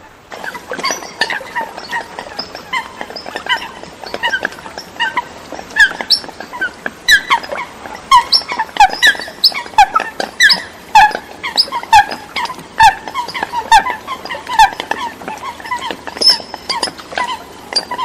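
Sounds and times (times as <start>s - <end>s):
coots calling: 0.4s - 18.0s.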